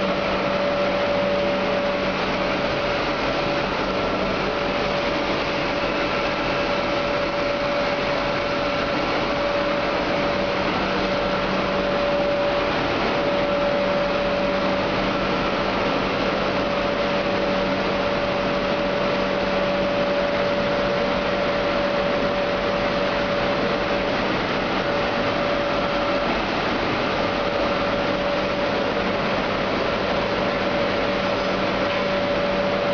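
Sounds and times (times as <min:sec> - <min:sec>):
blower fan and electric motors: 0:00.0 - 0:32.9.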